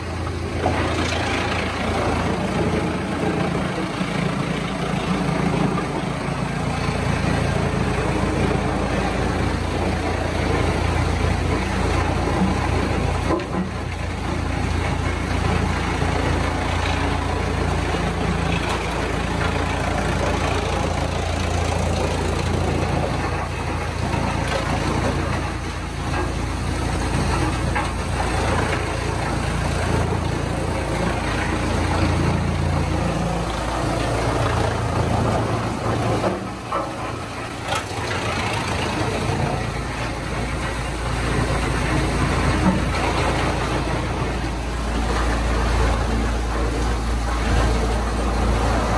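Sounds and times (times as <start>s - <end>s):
large engine running: 0.0s - 48.9s
sharp knocks and clatter: 8.4s - 48.9s.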